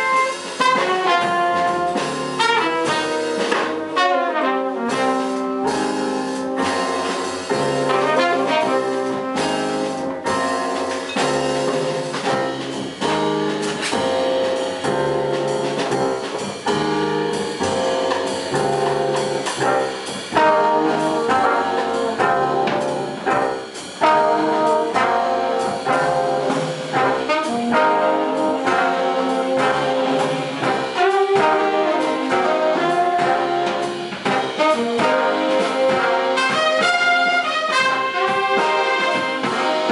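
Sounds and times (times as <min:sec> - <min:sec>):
jazz big band playing: 0:00.0 - 0:39.9.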